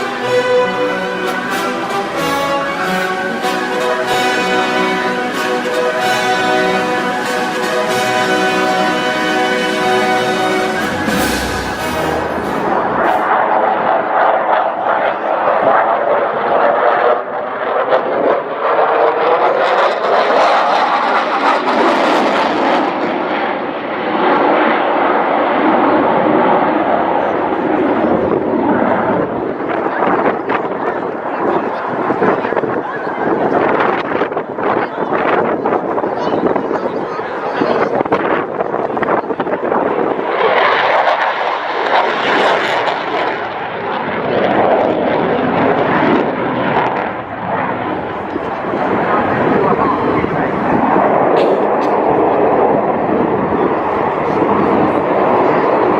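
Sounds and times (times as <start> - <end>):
aircraft engine passing overhead: 0.0 - 55.9.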